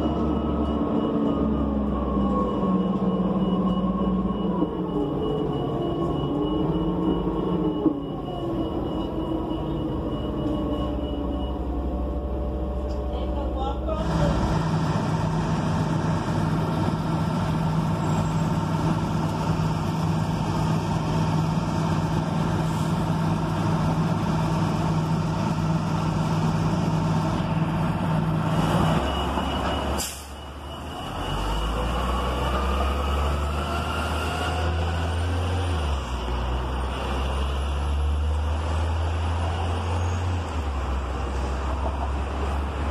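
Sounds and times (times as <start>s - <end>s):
bus engine idling: 0.0s - 42.9s
bus pulling away: 0.0s - 42.9s.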